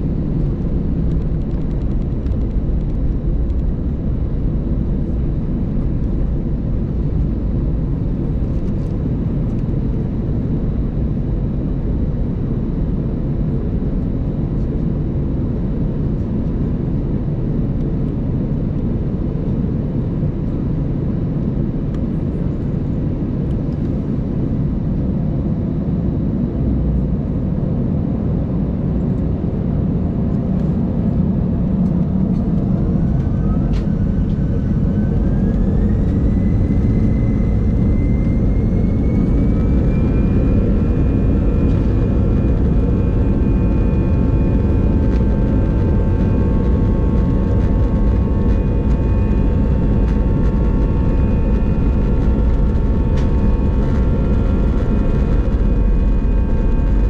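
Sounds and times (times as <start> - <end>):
jet engine whine rising: 0.0 - 57.0
jet engines rumbling in cabin: 0.0 - 57.0.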